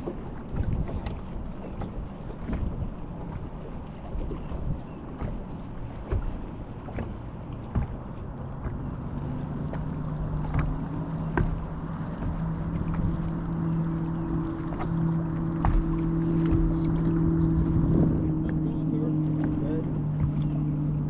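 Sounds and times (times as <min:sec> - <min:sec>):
boat motor humming: 0:00.0 - 0:21.0
wind and water rumble: 0:00.0 - 0:21.0.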